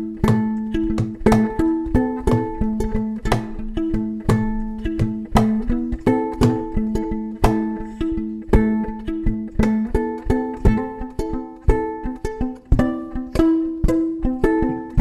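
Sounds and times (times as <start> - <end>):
plucked violin riff: 0.0 - 15.0.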